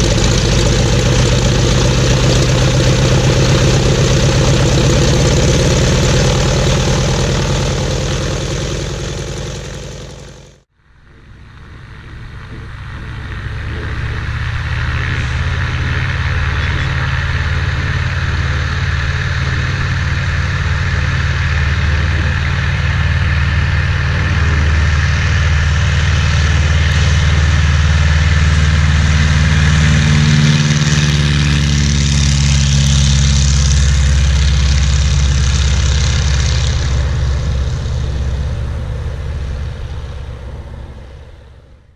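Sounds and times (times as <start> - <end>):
radial aircraft engine running: 0.0 - 41.9.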